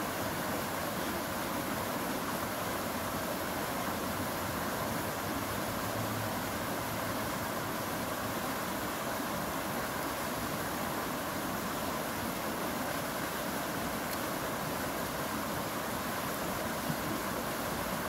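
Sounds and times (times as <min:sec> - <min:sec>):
stream rushing over riffle: 0:00.0 - 0:18.0.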